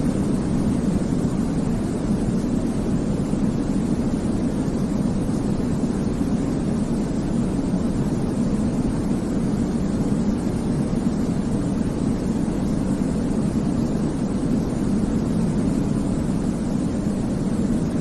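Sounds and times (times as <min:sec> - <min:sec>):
deep white noise hiss: 0:00.0 - 0:18.0.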